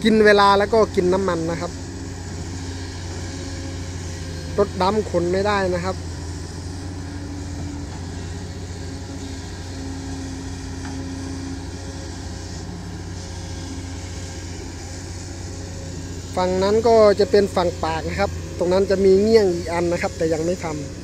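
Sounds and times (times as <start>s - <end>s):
excavator diesel engines droning: 0.0s - 21.0s
faint wavering whine: 0.0s - 21.0s.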